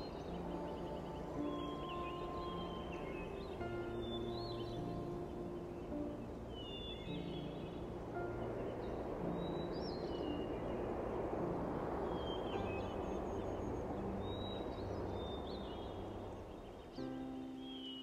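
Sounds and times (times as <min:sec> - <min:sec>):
music with sustained notes: 0:00.0 - 0:18.0
small birds chirping: 0:00.0 - 0:18.0
steady rushing noise: 0:00.0 - 0:18.0.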